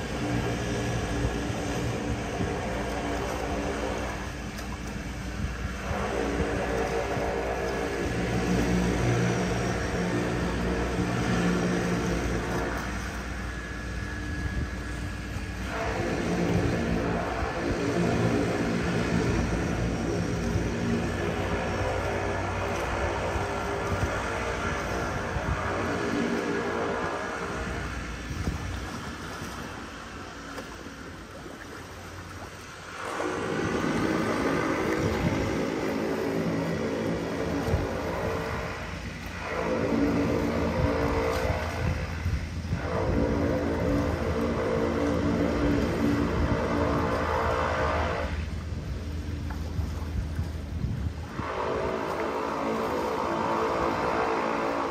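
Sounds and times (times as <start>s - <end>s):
propeller engines running: 0.0s - 54.9s
wind or water noise: 0.0s - 54.9s.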